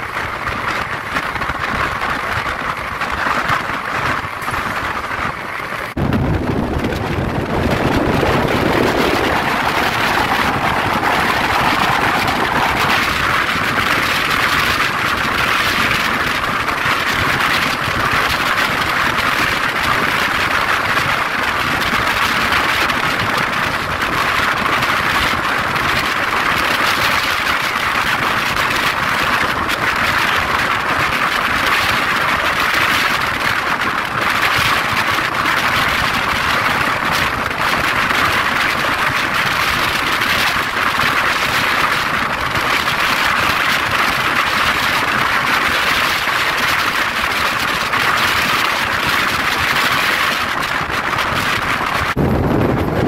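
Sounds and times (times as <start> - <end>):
train wind and rail noise: 0.0 - 53.0.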